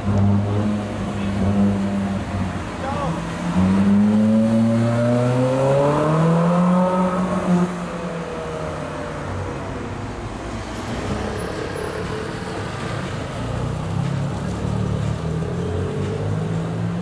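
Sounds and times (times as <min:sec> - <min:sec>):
passing traffic: 0:00.0 - 0:17.0.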